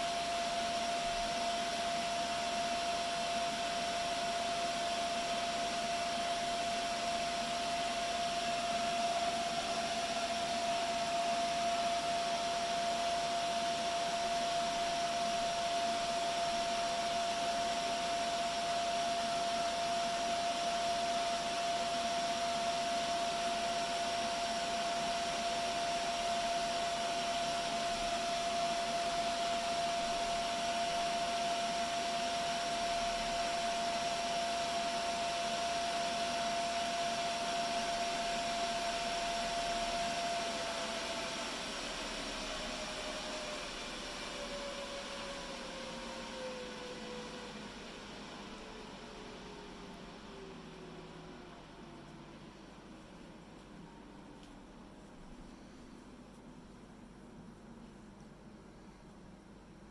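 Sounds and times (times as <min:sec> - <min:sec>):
server cooling fans whine: 0:00.0 - 0:59.9.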